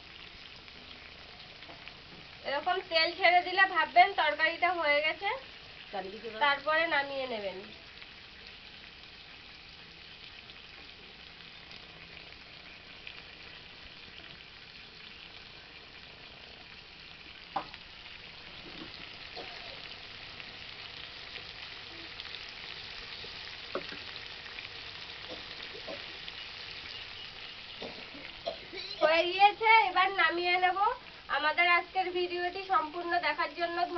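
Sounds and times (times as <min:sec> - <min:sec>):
curry sizzling in oil: 0:00.0 - 0:33.9.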